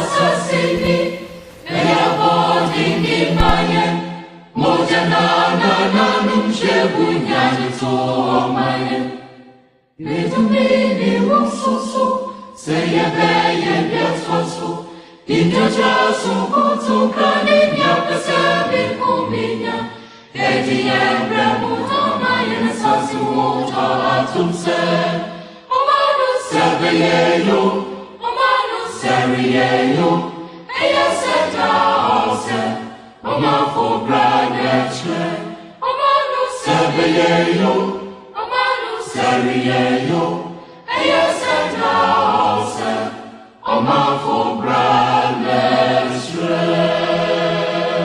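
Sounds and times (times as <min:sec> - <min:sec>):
choir singing: 0:00.0 - 0:48.0.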